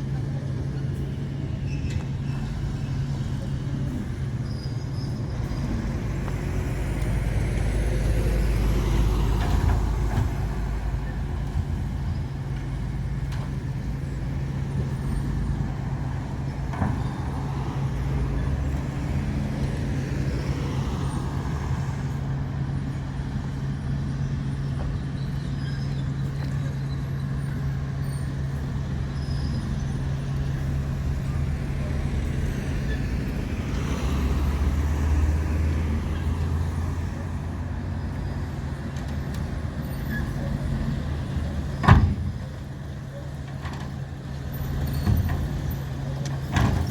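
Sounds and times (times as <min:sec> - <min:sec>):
diesel construction machinery running: 0:00.0 - 0:46.9.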